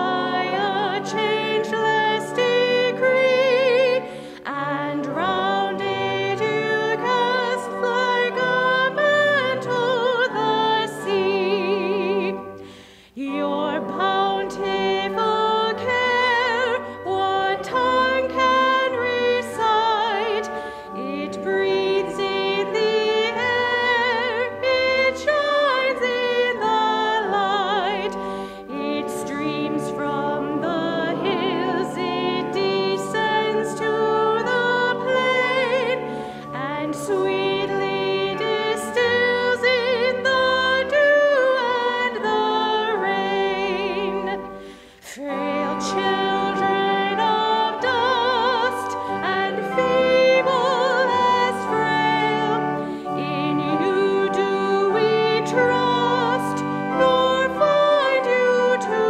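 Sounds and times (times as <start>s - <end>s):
sustained instrumental accompaniment: 0.0s - 59.0s
woman singing with vibrato: 0.0s - 59.0s.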